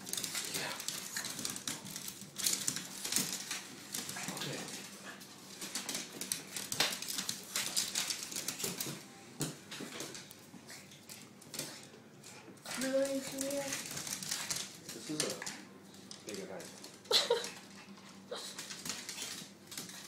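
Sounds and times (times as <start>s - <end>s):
dog claws clicking on hardwood floor: 0.0s - 17.8s, 18.5s - 20.0s.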